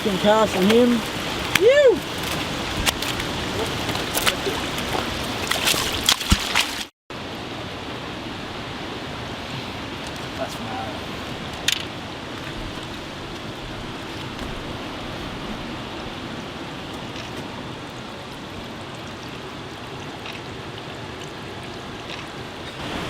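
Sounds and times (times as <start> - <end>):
floodwater rushing through creek: 0.0 - 23.0.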